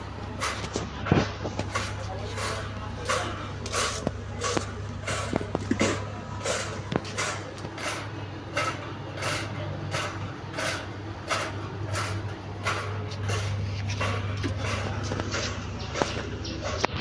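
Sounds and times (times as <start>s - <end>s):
electric fan humming: 0.0s - 17.0s
rhythmic whooshing scrape: 0.0s - 17.0s.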